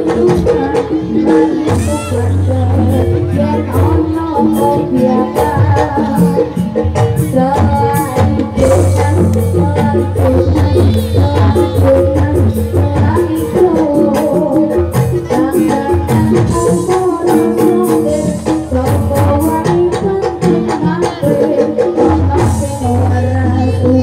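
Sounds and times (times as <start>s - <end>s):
drum and percussion strikes: 0.0s - 24.0s.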